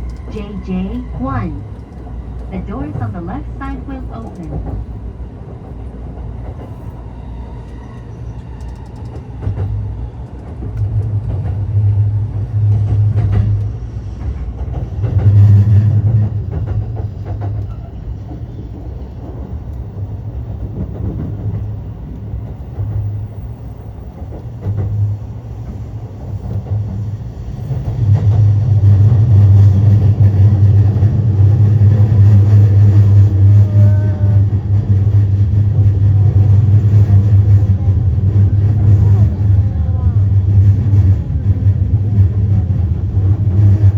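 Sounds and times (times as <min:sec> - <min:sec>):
train rumble inside carriage: 0:00.0 - 0:43.9.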